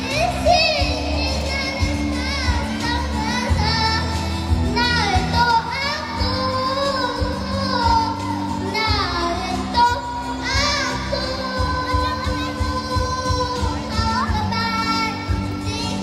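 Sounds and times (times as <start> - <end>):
girl singing into microphone: 0.0 - 16.0.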